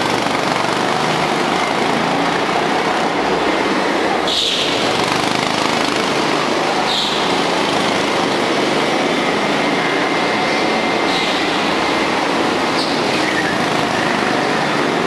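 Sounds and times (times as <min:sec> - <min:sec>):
go-kart engines running: 0:00.0 - 0:15.0
go-kart passing: 0:00.0 - 0:15.0.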